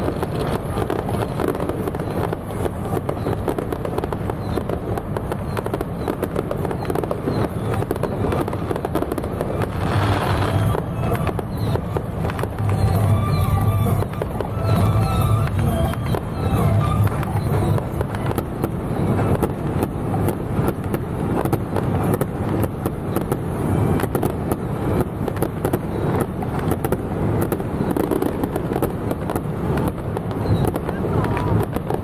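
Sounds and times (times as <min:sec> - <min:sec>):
fireworks crackling: 0:00.0 - 0:32.0
low rumble: 0:00.0 - 0:32.0.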